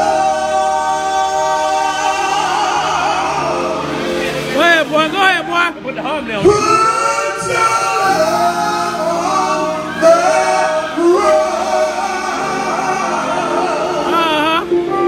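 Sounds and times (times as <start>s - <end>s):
man singing into a microphone: 0.0s - 4.5s, 6.4s - 15.0s
band accompaniment: 0.0s - 15.0s.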